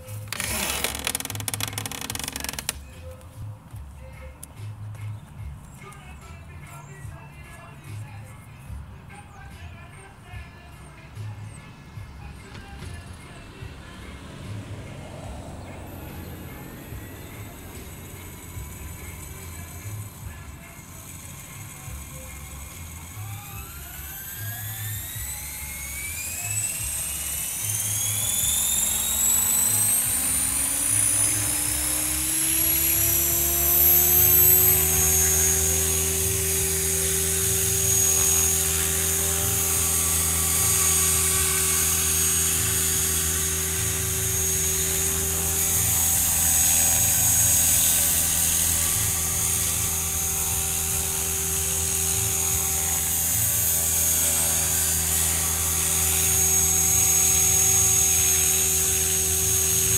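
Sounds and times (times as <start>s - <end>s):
model helicopter rotor whine: 0.0s - 3.3s, 5.8s - 59.9s.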